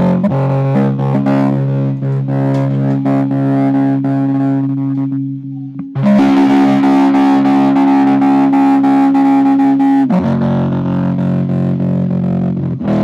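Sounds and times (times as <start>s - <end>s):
electric guitar with tremolo: 0.0s - 13.0s.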